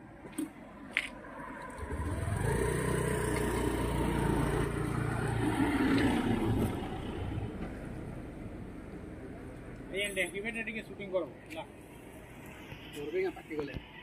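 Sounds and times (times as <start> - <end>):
vehicle engine humming: 0.1 - 13.9.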